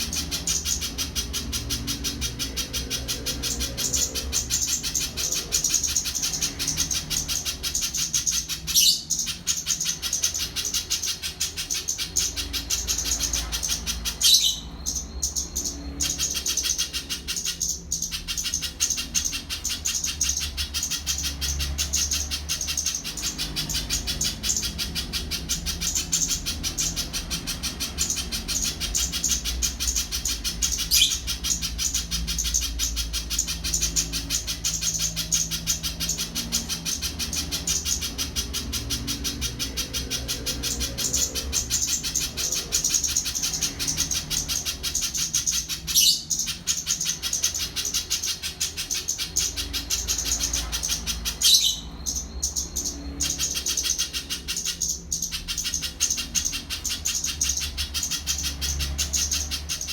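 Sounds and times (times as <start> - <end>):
bird high-pitched chatter: 0.0 - 59.9.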